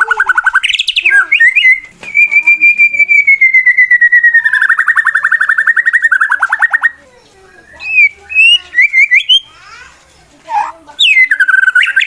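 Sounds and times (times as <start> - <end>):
bird singing with trills: 0.0 - 9.6, 10.5 - 12.0.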